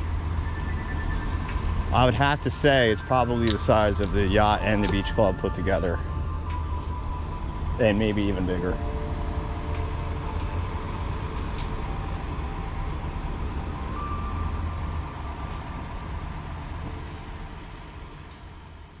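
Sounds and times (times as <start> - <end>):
faint steady tones: 0.0 - 19.0
low rumble: 0.0 - 19.0.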